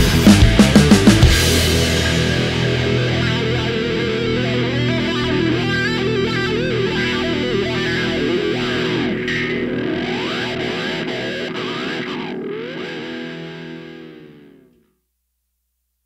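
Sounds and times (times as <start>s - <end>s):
distorted electric guitar lead: 0.0s - 14.8s.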